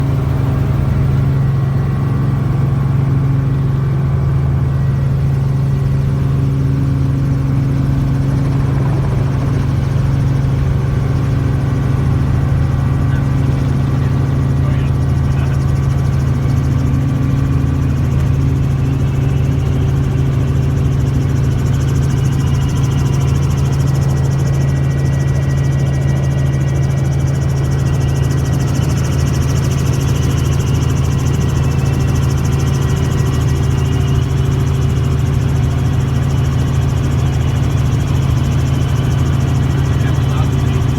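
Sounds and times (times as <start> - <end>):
helicopter low hum: 0.0 - 40.9.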